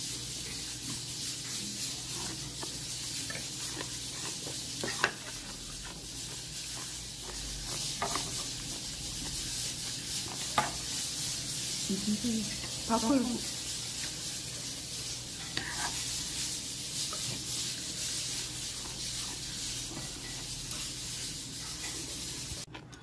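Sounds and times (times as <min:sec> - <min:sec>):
room noise hiss: 0:00.0 - 0:22.7.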